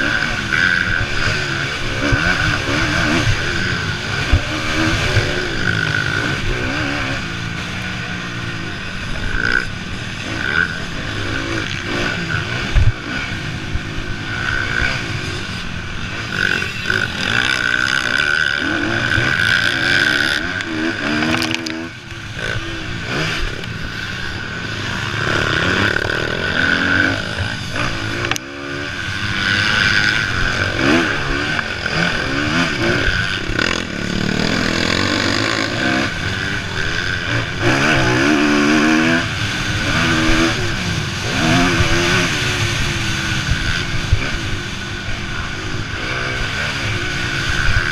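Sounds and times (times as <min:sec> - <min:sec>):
motocross bikes revving: 0:00.0 - 0:47.9.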